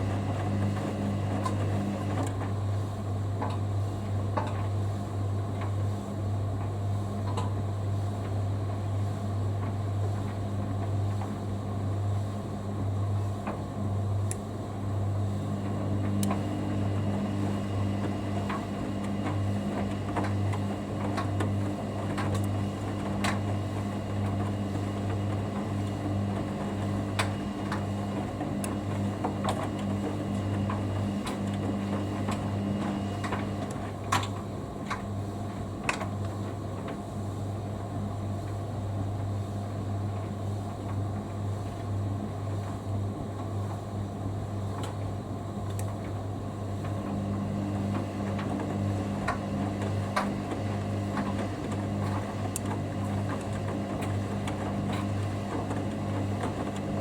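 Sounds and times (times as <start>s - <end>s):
washing machine drum motor humming: 0.0s - 57.0s.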